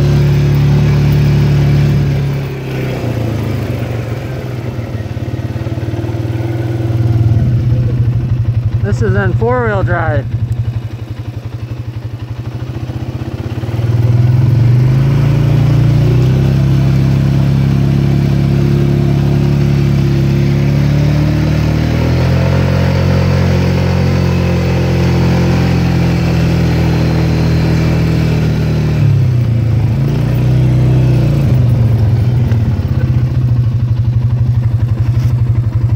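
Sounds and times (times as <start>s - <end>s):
quad bike engine: 0.0s - 35.9s.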